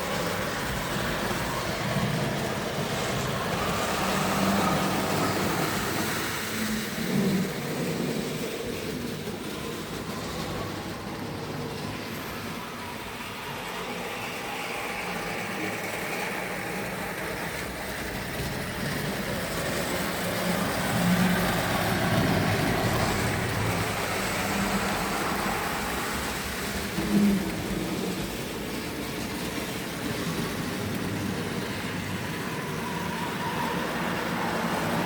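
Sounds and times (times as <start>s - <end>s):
model train motor hum: 0.0s - 35.0s
wheels rumbling on rails: 0.0s - 35.0s.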